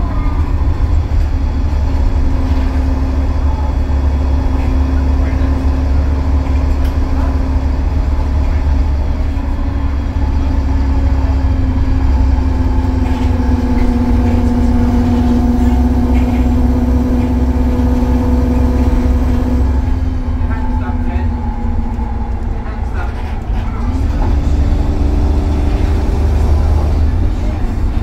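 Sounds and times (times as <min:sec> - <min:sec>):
bus engine drone: 0:00.0 - 0:28.0
driveline whine: 0:00.0 - 0:28.0.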